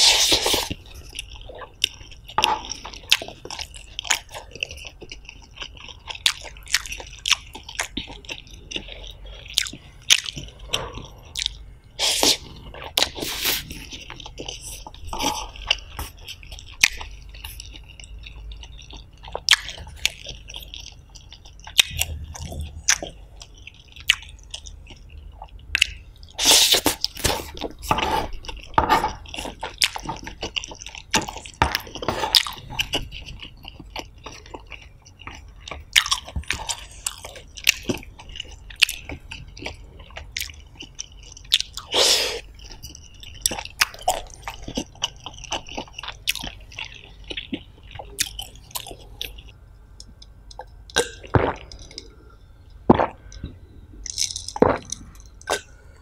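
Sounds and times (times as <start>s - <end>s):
chewing noodles with mouth smacking: 0.0s - 56.0s.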